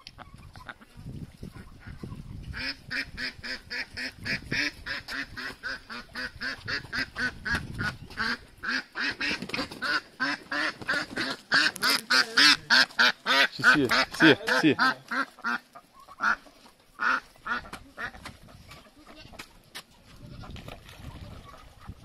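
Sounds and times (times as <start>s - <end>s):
ducks quacking: 0.1s - 19.5s, 20.2s - 22.0s.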